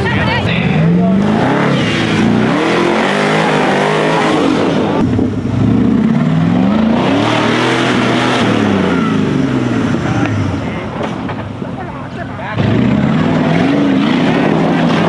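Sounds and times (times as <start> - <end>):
buggy engine revving hard: 0.0 - 11.2, 12.5 - 15.0.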